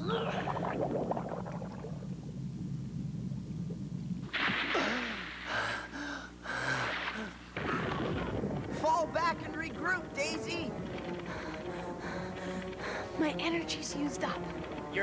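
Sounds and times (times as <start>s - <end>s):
low rumble: 0.3s - 6.0s, 6.6s - 15.0s.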